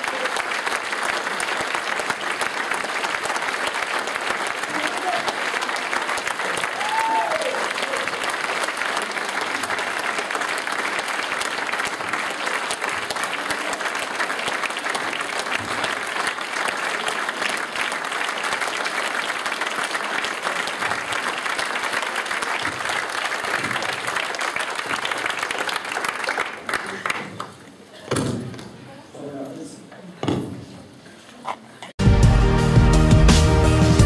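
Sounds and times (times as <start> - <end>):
large audience applause: 0.0 - 27.8.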